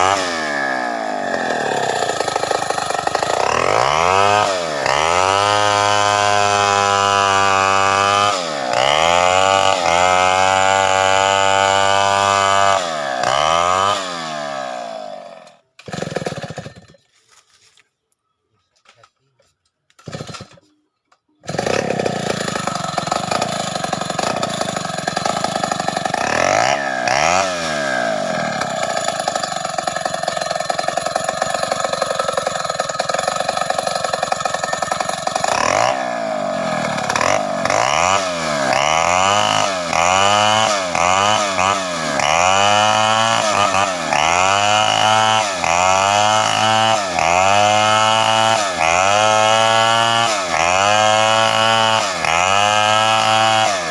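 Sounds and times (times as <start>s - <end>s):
chainsaw cutting log: 0.0s - 17.0s, 19.9s - 20.8s, 21.4s - 53.9s.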